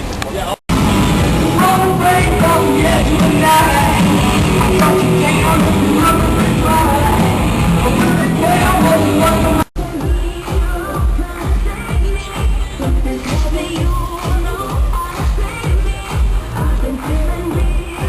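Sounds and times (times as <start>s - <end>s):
music with pulsing bass beat: 0.7s - 18.0s
rock music with singing: 0.7s - 18.0s.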